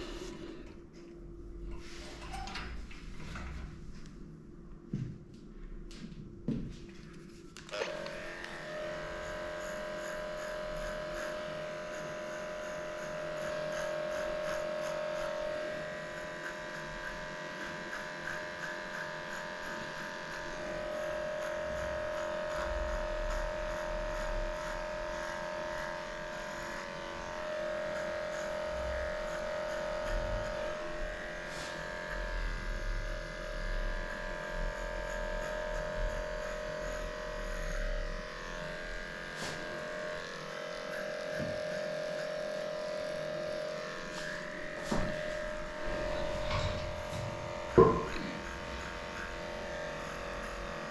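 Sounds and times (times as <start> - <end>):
electric clippers humming: 0.0 - 0.6, 7.6 - 50.9.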